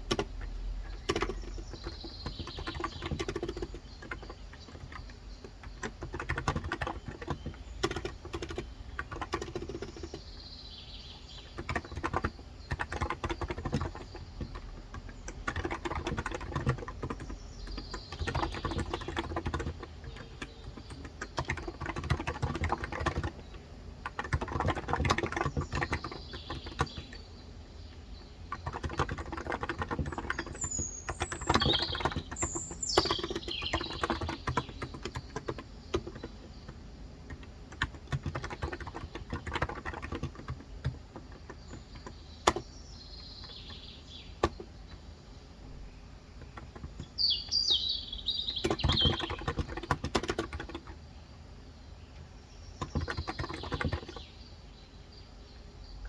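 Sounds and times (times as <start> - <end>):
typing on keyboard: 0.0 - 10.4, 11.2 - 27.3, 28.0 - 45.0, 46.4 - 47.6, 48.4 - 51.0, 52.8 - 54.3
bird chirping: 0.0 - 56.0.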